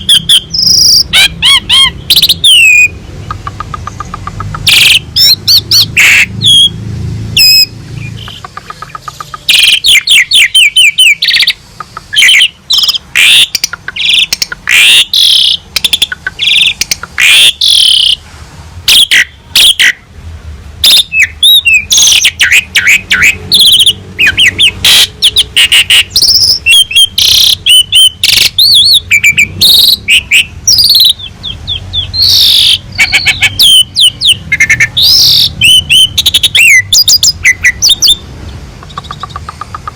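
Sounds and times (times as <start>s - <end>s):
starling whistles and trills: 0.0s - 6.8s, 7.4s - 18.2s, 18.9s - 20.0s, 20.8s - 39.9s.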